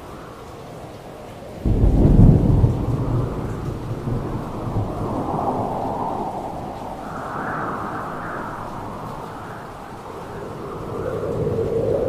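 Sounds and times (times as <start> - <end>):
steady rain: 0.0 - 12.0
thunder rumbling: 1.6 - 12.0.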